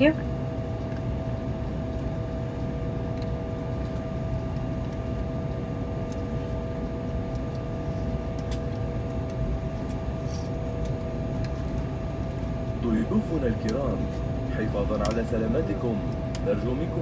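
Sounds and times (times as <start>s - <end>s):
jet cabin low rumble: 0.0s - 17.0s.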